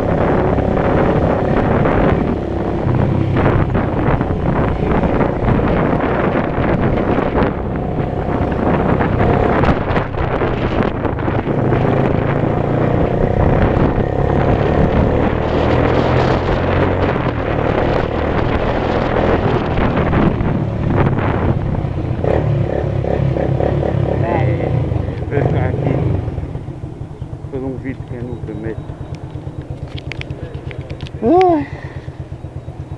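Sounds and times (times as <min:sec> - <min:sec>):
motorcycle engine running: 0:00.0 - 0:32.9
wind rushing over microphone: 0:00.0 - 0:32.9.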